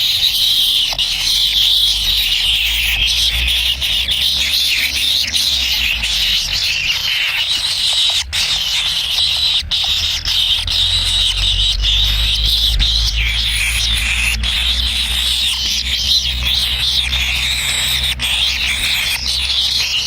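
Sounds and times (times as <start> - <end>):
chicks begging calls: 0.0 - 20.0.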